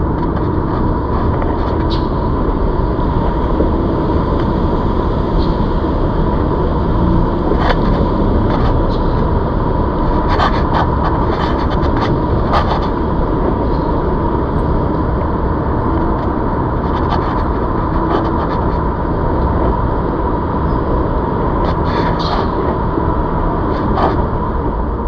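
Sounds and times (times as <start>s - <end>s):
electric bike riding rumble: 0.0s - 25.0s
faint steady whine: 0.0s - 25.0s.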